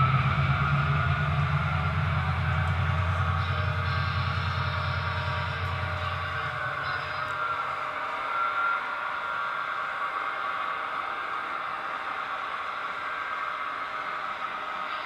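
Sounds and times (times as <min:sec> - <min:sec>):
hissy diesel engine sound: 0:00.0 - 0:15.0.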